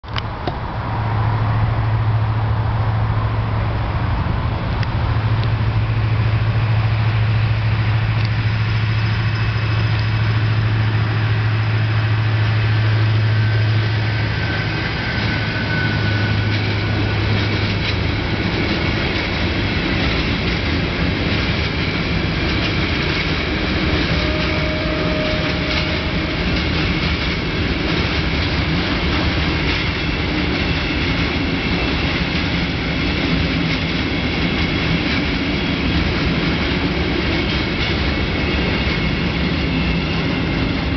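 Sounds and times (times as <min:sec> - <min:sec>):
diesel locomotive engine droning: 0:00.0 - 0:40.9
train wagons rolling over rails: 0:00.0 - 0:40.9
rail clicks: 0:04.7 - 0:40.9.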